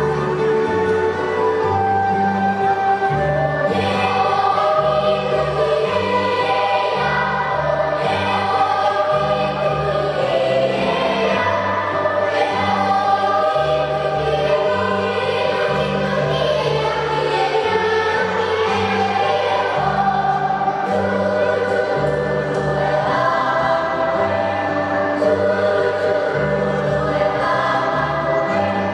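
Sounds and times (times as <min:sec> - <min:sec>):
children's choir singing: 0:00.0 - 0:28.9
instrumental accompaniment: 0:00.0 - 0:28.9.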